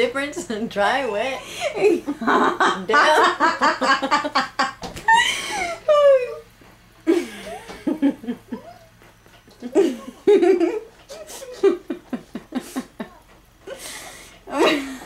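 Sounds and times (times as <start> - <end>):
woman laughing and giggling: 0.2 - 6.5, 7.1 - 15.0.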